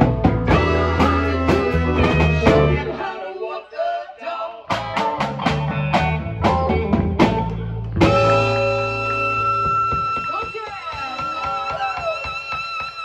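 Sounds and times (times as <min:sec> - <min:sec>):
blues-rock band playing: 0:00.0 - 0:03.1, 0:04.7 - 0:13.0.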